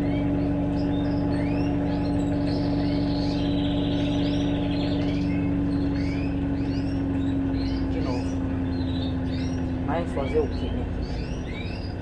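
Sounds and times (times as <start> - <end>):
birds chirping: 0.0 - 12.0
washing machine draining and spinning: 0.0 - 12.0.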